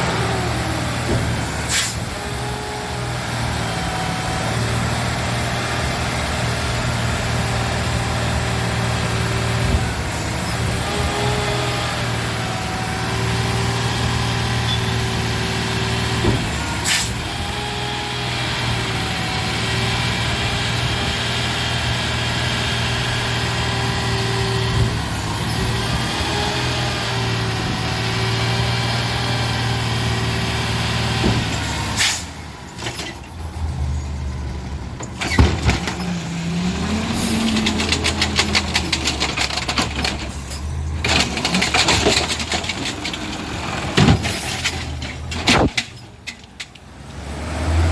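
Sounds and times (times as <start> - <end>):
garbage truck engine hum: 0.0 - 47.9.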